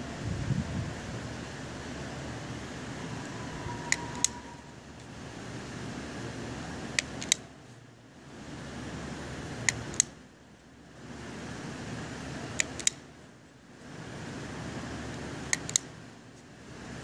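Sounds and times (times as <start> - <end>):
background rushing noise: 0.0 - 17.0.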